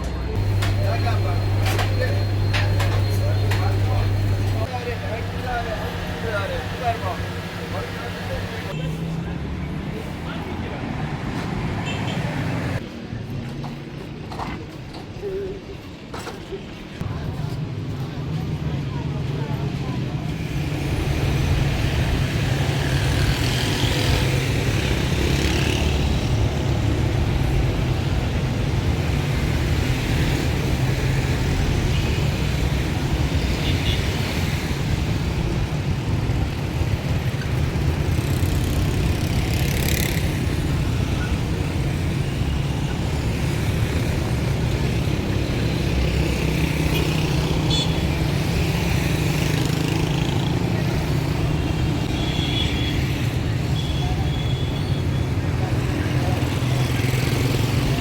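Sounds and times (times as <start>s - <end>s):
motor traffic rumble: 0.0s - 58.0s.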